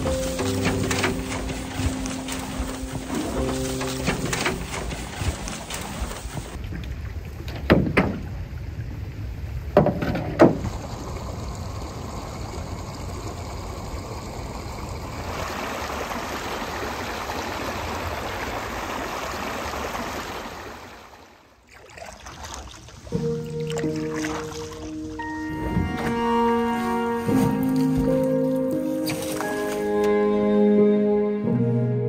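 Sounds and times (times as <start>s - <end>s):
water washing around canoe: 0.0s - 30.0s.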